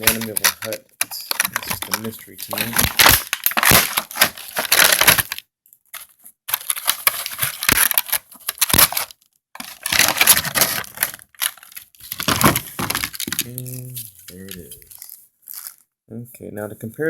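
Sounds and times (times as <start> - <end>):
plastic packaging crinkling: 0.0 - 5.4, 6.0 - 15.8.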